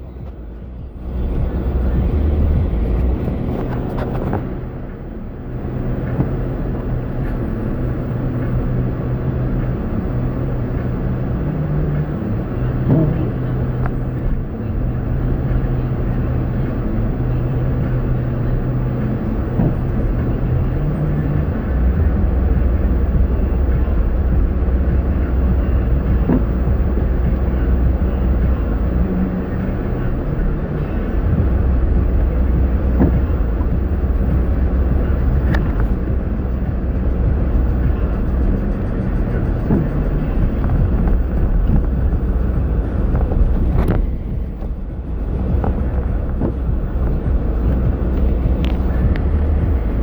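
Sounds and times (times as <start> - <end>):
car engine hum: 0.0 - 50.0
road noise: 0.0 - 50.0.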